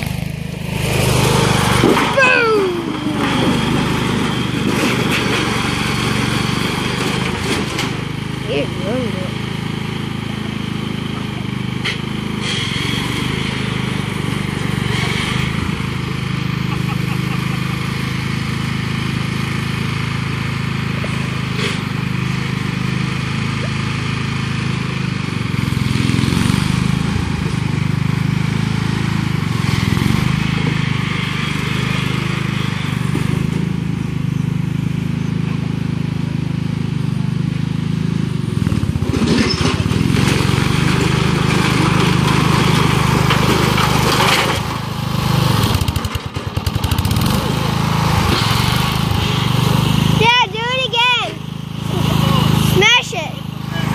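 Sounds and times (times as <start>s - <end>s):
lawn tractor engine running: 0.0s - 53.9s.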